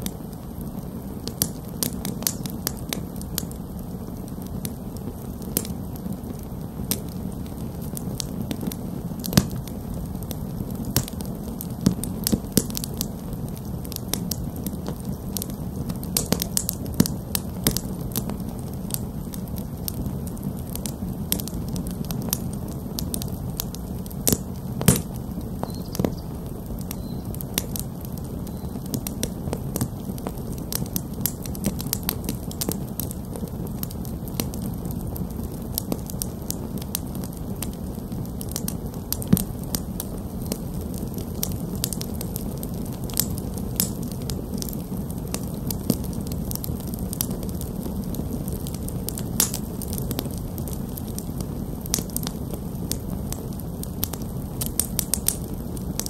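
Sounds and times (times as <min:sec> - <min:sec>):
campfire flames rushing: 0:00.0 - 0:56.0
fire crackling and popping: 0:00.0 - 0:56.0.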